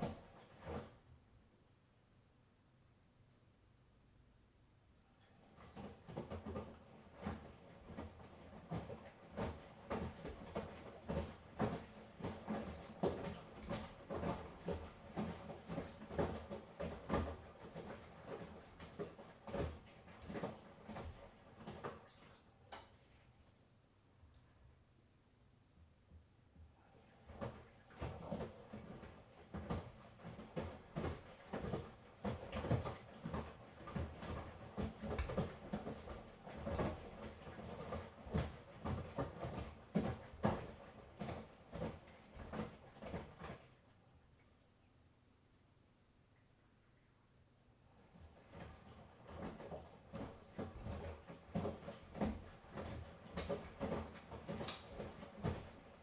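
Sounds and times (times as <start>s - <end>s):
laundry tumbling in washing machine: 0.0s - 1.2s, 5.2s - 23.6s, 26.1s - 44.2s, 47.8s - 56.0s.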